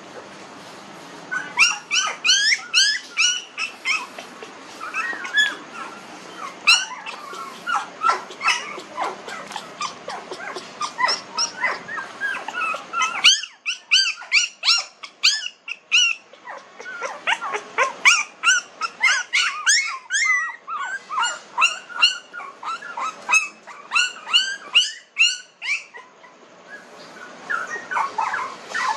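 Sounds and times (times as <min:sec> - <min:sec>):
puppies whimpering and squeaking: 0:01.2 - 0:28.9.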